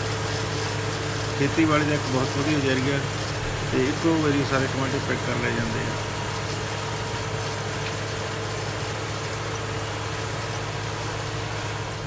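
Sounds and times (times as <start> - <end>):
harvester and tractor engine drone: 0.0 - 12.0.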